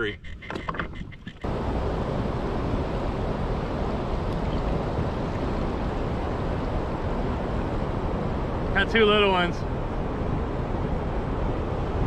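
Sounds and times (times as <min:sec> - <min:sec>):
moving water: 0:00.0 - 0:12.0
wind: 0:00.0 - 0:12.0.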